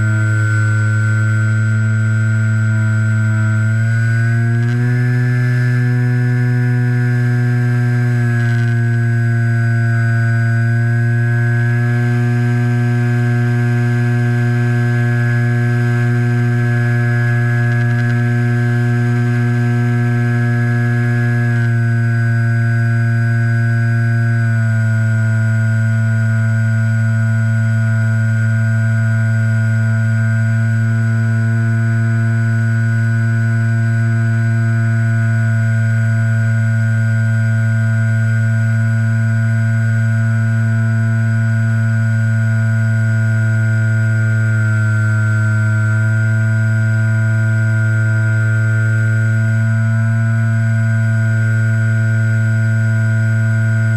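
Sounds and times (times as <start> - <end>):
model plane motor droning: 0.0 - 53.9.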